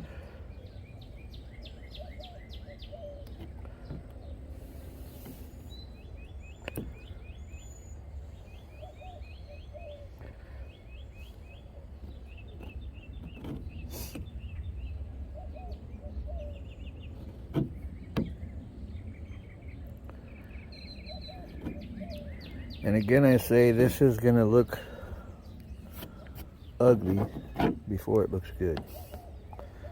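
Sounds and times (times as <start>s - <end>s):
songbirds chirping: 0.0s - 29.9s
steady low rumble: 0.0s - 29.9s.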